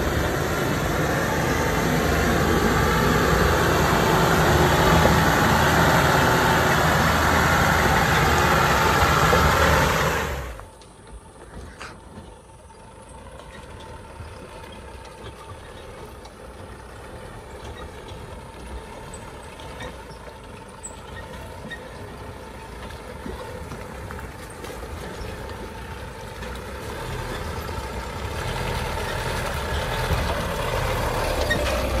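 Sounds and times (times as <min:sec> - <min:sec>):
diesel truck engine driving: 0:00.0 - 0:32.0.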